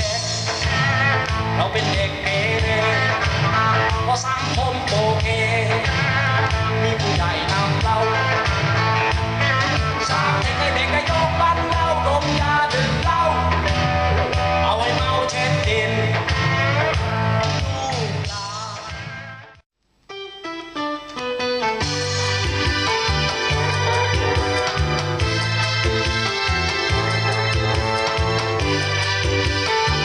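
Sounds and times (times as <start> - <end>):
band music from vinyl record: 0.0 - 30.0.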